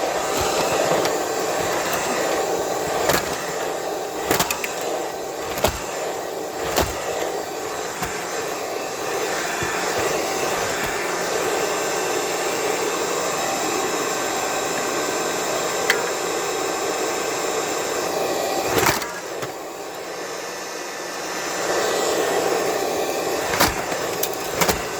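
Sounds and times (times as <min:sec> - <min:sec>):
vacuum cleaner motor whirring: 0:00.0 - 0:24.9.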